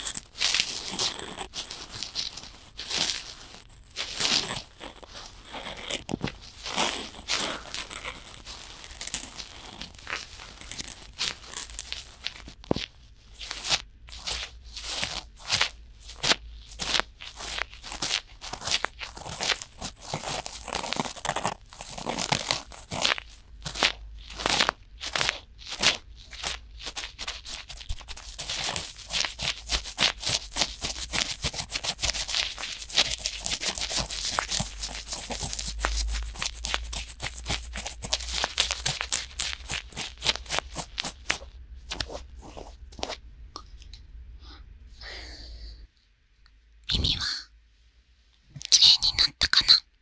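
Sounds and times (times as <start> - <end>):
cotton swabs scratching microphone: 0.0 - 43.2.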